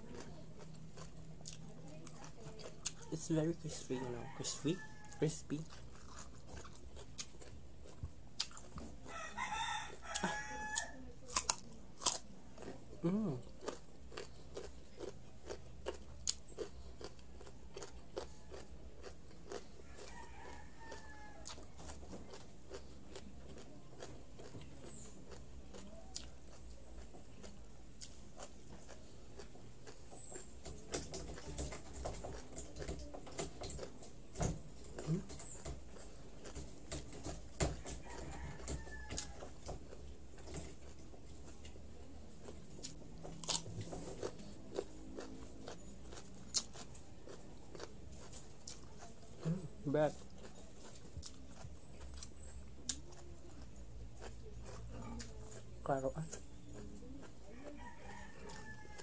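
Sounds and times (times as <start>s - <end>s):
chewing raw carrot: 0.0s - 59.0s.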